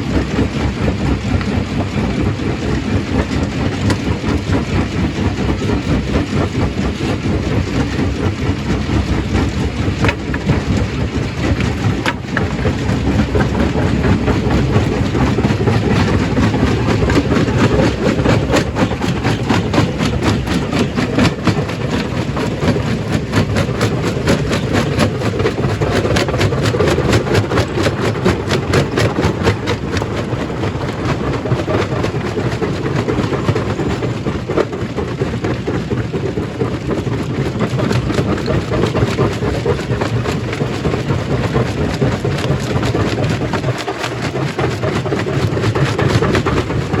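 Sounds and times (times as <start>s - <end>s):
stone crushing machine rumbling: 0.0s - 47.0s.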